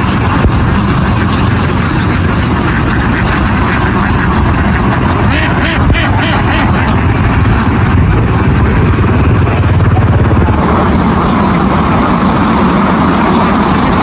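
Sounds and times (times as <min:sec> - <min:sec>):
heavy engine rumbling: 0:00.0 - 0:14.0.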